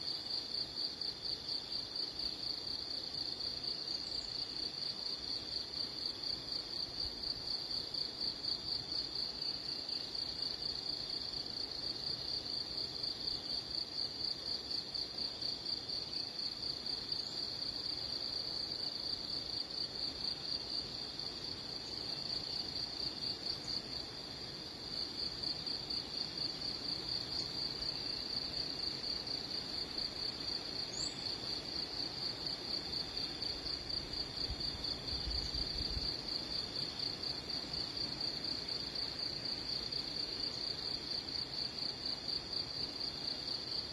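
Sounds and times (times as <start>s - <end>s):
high-pitched insect trill: 0.1s - 43.9s.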